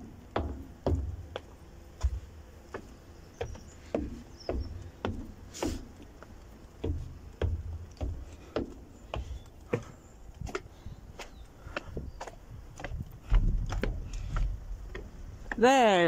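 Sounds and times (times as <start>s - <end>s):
footsteps walking: 0.0s - 16.0s.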